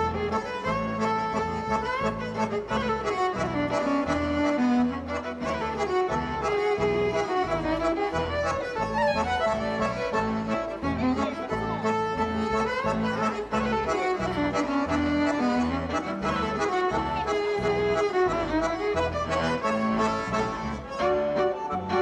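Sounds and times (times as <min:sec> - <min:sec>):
instrumental music with bass line: 0:00.0 - 0:22.0.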